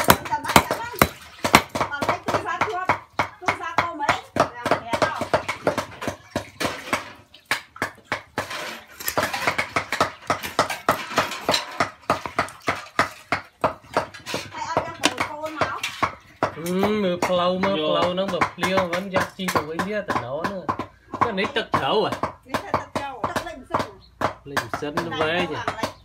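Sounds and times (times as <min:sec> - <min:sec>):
cleaver chopping on wooden block: 0:00.0 - 0:26.0.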